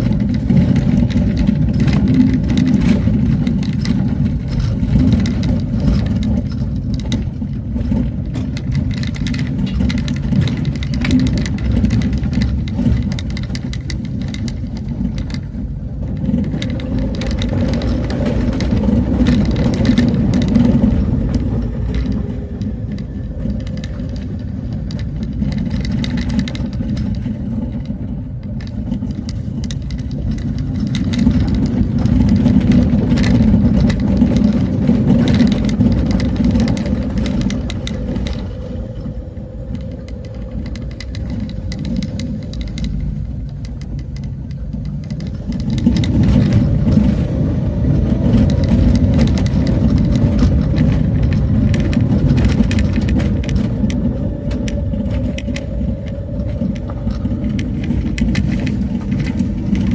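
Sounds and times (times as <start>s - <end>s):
knocks and rattles over road: 0.0s - 59.9s.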